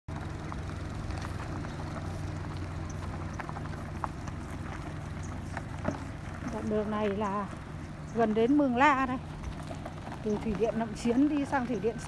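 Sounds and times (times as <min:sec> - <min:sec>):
car engine at low revs: 0:00.1 - 0:12.0
tyres crunching over loose rocks: 0:00.1 - 0:12.0.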